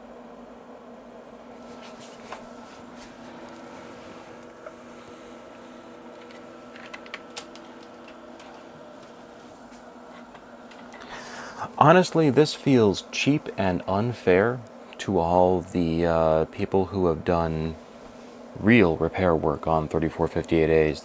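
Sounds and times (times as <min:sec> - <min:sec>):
electronics hum: 0:00.0 - 0:21.0.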